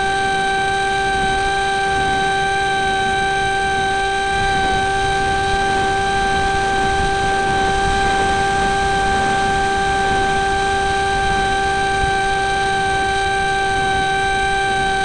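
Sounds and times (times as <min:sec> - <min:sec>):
electric motor and propeller whine: 0:00.0 - 0:15.0
wind rushing over microphone: 0:02.9 - 0:15.0.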